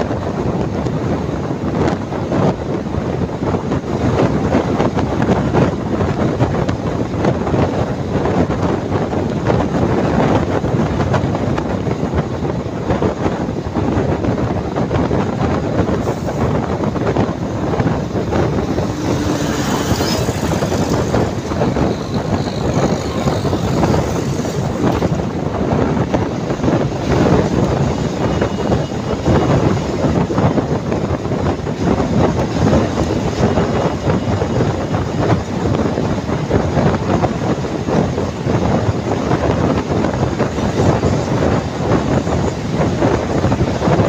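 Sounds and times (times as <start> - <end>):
bus wind and road noise: 0.0 - 44.0.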